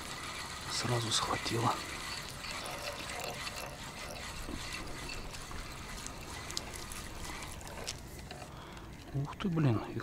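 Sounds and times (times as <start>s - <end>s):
water trickling and splashing: 0.0s - 9.7s.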